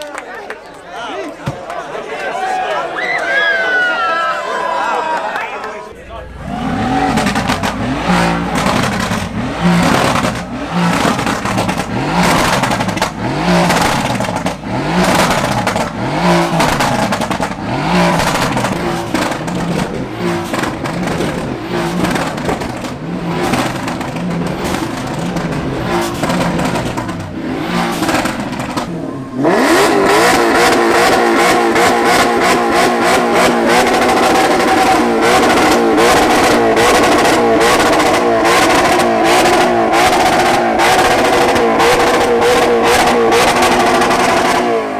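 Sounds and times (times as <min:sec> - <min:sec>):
car engine revving in blips: 0:05.9 - 0:44.9
steady loud engine note: 0:05.9 - 0:44.9.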